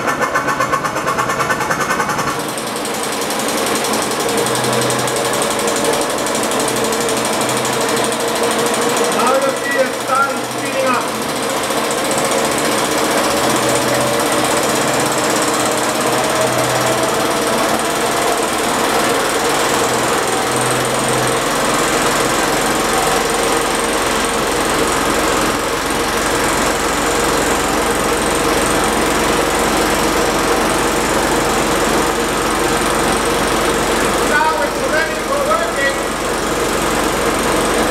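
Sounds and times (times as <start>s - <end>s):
single-cylinder engine running: 0.0s - 37.9s.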